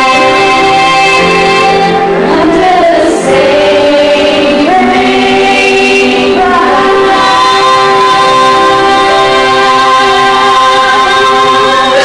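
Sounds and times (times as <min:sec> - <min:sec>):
choir singing held notes: 0:00.0 - 0:12.0.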